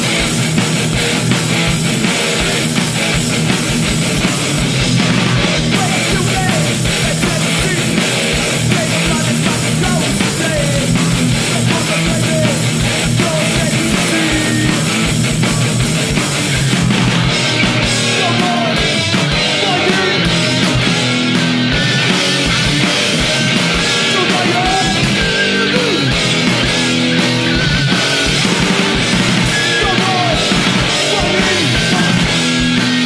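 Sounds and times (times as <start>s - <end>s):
punk band playing live: 0.0s - 33.0s.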